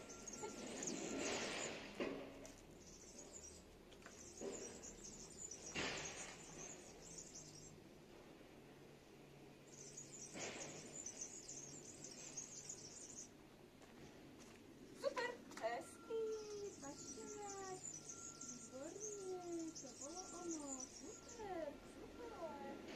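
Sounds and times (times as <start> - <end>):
birds chirping: 0.0 - 7.9, 9.3 - 22.9.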